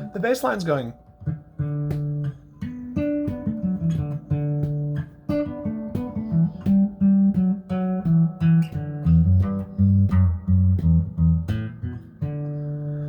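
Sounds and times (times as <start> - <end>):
guitar walking bass line: 0.0 - 13.0.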